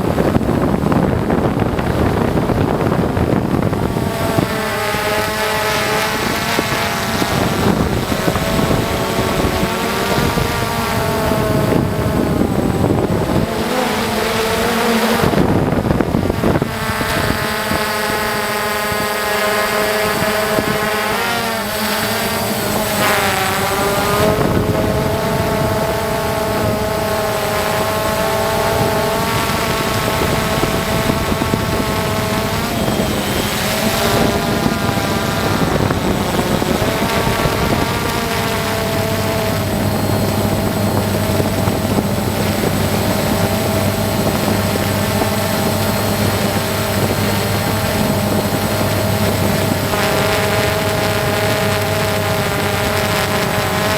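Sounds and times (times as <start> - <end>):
motor running: 0.0 - 53.9
steady low hum: 0.0 - 53.9.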